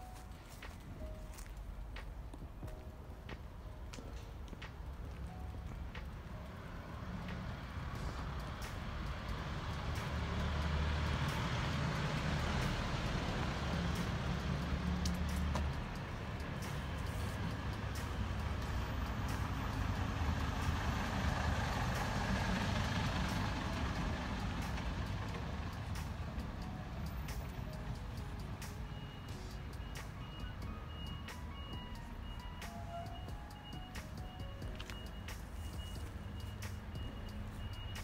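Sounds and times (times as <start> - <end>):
heavy vehicle engine rumbling: 0.0 - 38.0
passing traffic: 0.0 - 38.0.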